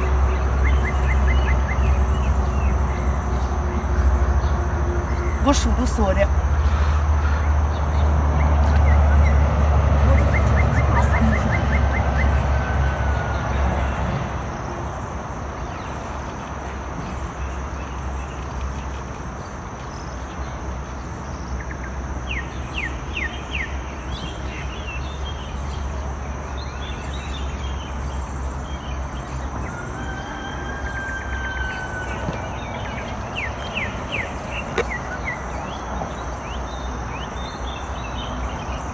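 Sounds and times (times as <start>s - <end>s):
birds chirping: 0.0s - 38.9s
wind: 0.0s - 38.9s.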